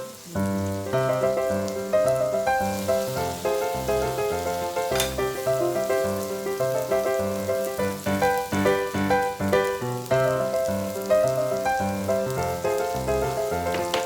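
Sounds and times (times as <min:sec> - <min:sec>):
pork sizzling on a grill: 0:00.0 - 0:14.0.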